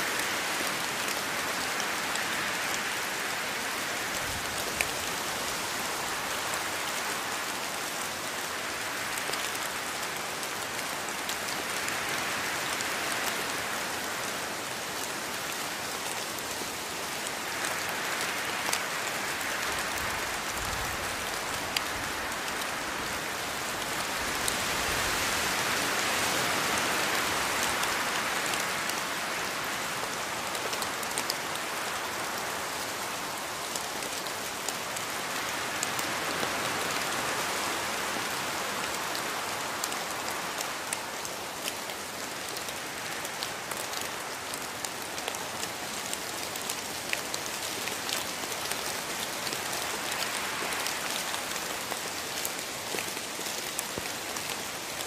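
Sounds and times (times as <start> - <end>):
steady rain in a forest: 0.0 - 55.0.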